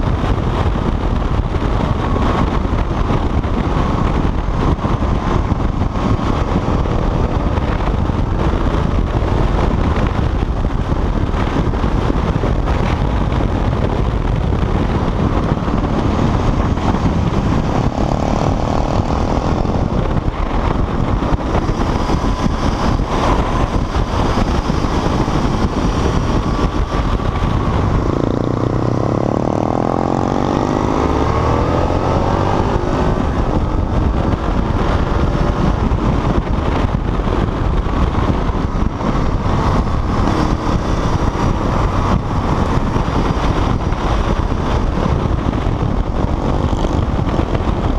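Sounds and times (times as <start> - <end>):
motorcycle engine running: 0.0 - 47.9
wind rush on microphone: 0.0 - 47.9.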